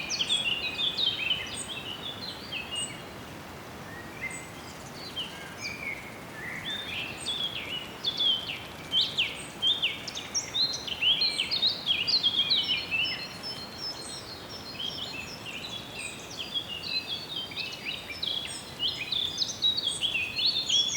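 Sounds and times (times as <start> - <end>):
songbirds chirping and singing: 0.0 - 3.2, 3.9 - 20.9
steady background hiss: 0.0 - 20.9.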